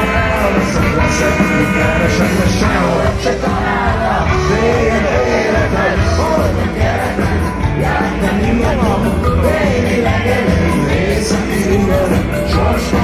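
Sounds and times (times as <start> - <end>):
loud rock music with singing: 0.0 - 13.0.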